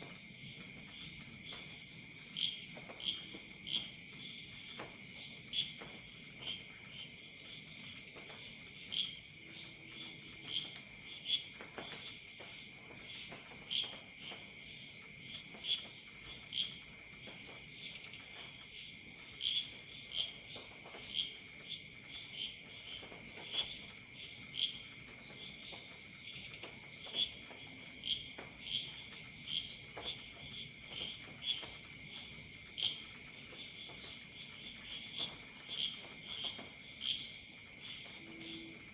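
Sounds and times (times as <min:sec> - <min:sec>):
crickets trilling: 0:00.0 - 0:38.9
insect chirps: 0:00.0 - 0:38.9.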